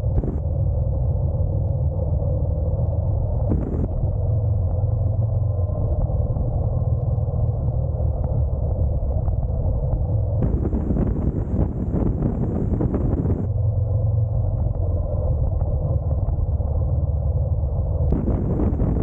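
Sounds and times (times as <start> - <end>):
motorcycle engine rumble: 0.0 - 0.4, 3.4 - 19.0
wind and road noise: 0.0 - 19.0.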